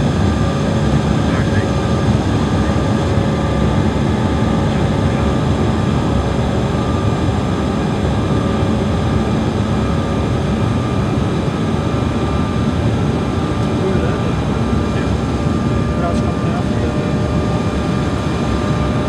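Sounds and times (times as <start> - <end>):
faint steady whines: 0.0 - 19.0
jet cabin drone: 0.0 - 19.0.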